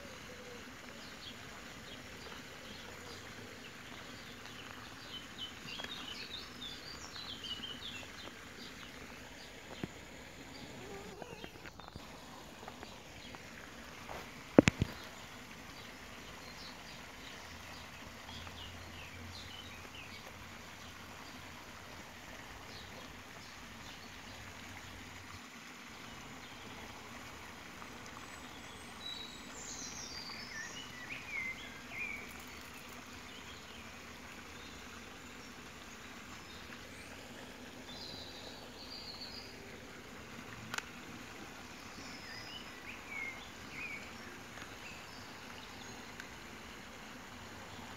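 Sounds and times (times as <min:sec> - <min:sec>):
songbirds chirping and trilling: 0:00.0 - 0:21.6, 0:28.1 - 0:47.9
steady background hiss: 0:00.0 - 0:47.9.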